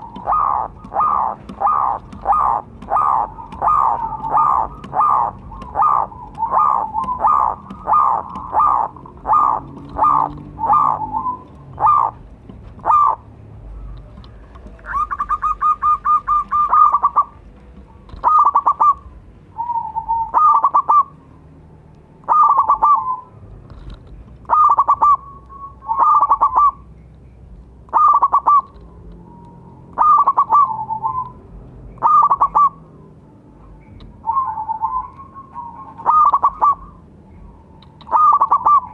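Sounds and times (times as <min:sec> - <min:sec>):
dove cooing: 0:00.0 - 0:17.4, 0:18.1 - 0:21.1, 0:22.2 - 0:23.3, 0:24.5 - 0:26.8, 0:27.9 - 0:31.4, 0:32.0 - 0:32.9, 0:34.2 - 0:38.9.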